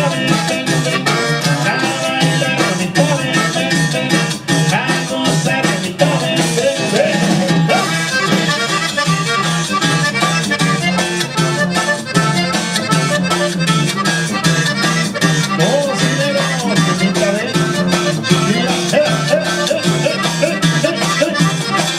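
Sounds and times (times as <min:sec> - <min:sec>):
live band playing latin song: 0:00.0 - 0:21.9.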